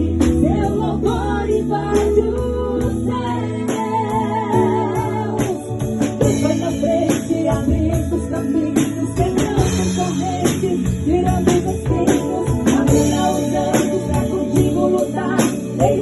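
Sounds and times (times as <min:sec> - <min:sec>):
keyboard melody over steady beat: 0:00.0 - 0:16.0.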